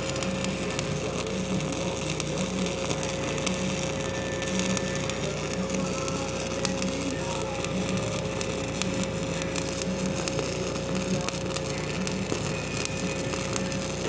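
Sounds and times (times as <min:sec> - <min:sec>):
arc welding sizzling crackle: 0:00.0 - 0:14.0
steady hum: 0:00.0 - 0:14.0
welding pops: 0:00.0 - 0:14.0.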